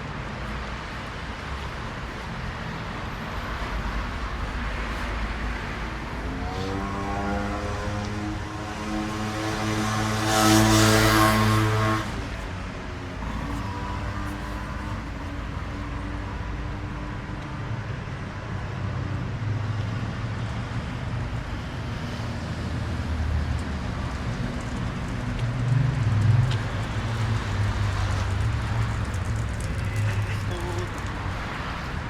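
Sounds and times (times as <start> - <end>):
road noise hum: 0.0 - 32.0.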